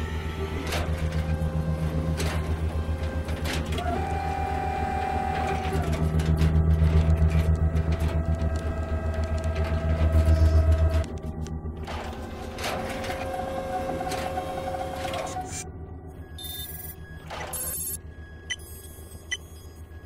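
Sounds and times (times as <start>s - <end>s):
pulsing mechanical hum: 0.0s - 20.0s
steady machine whine: 0.0s - 20.0s.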